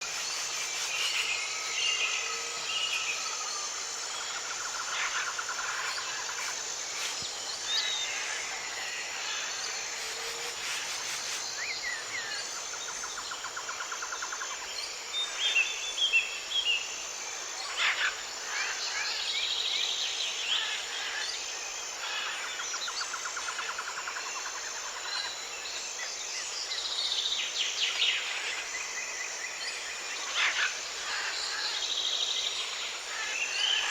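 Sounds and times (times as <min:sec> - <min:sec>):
high insect chirp: 0:00.0 - 0:33.9.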